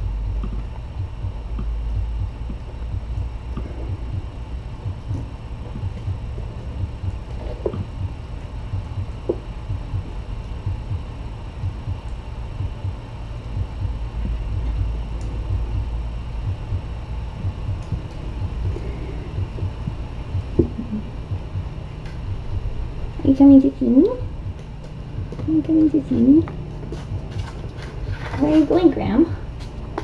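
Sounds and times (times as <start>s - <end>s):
low pulsing hum: 0.0s - 30.0s.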